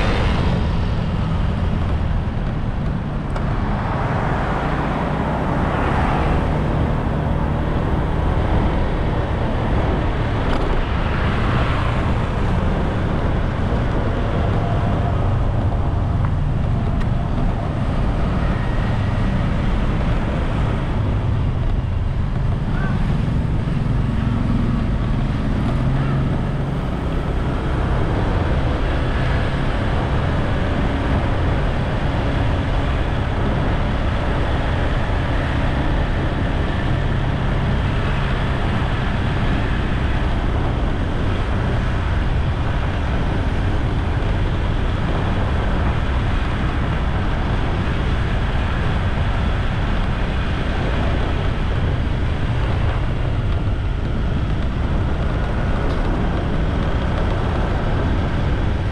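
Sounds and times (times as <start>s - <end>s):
wind and road noise: 0.0s - 58.9s.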